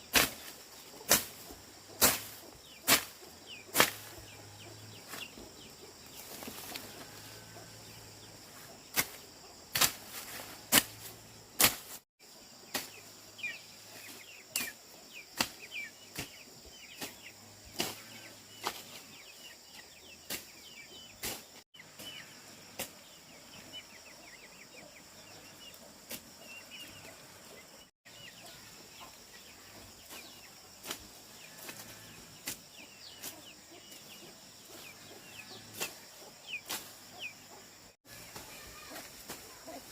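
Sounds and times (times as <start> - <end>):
chickens clucking and chirping: 0.0 - 11.6, 12.3 - 39.9.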